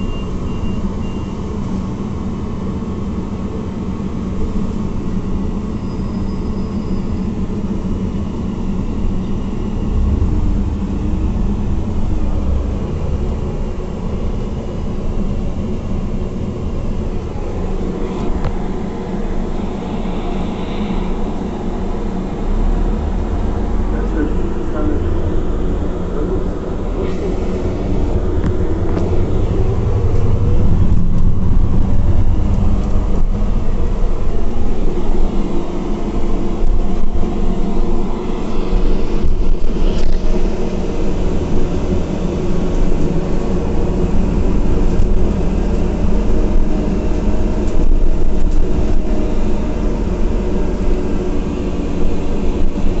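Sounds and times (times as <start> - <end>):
bus engine drone: 0.0 - 53.0
road rumble: 0.0 - 53.0.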